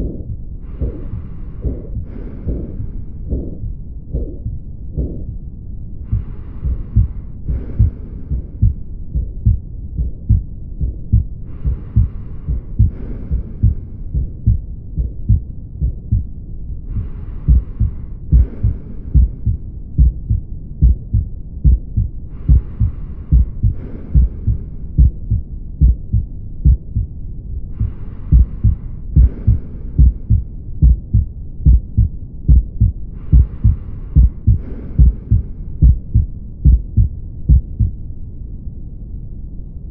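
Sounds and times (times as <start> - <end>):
heart murmur: 0.0 - 38.0
heartbeats through stethoscope: 0.0 - 38.0.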